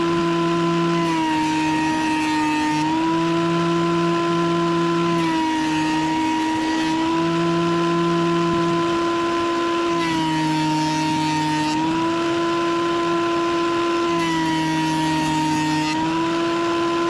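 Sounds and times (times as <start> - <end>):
thickness planer motor whine: 0.0 - 17.0.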